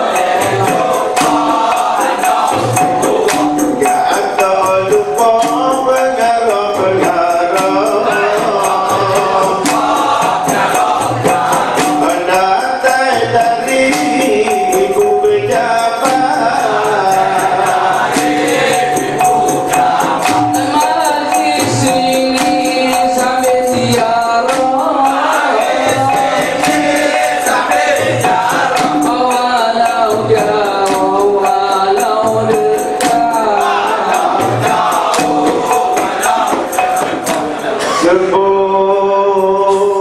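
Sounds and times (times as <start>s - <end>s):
group singing in chorus: 0.0s - 40.0s
sharp percussion strikes: 0.0s - 40.0s.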